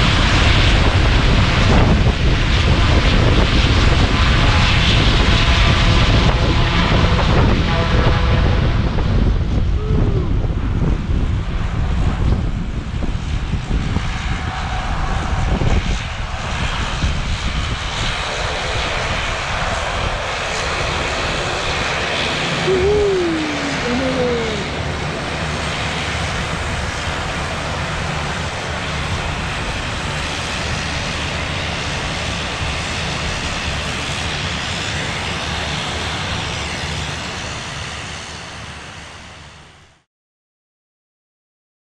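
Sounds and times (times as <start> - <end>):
turboprop engines droning: 0.0 - 39.7.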